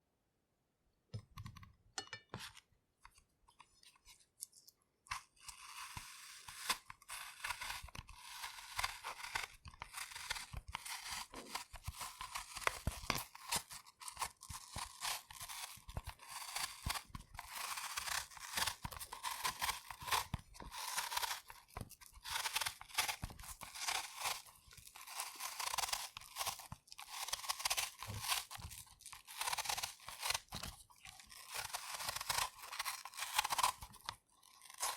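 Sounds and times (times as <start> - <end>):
knife peeling apple: 1.2 - 34.9.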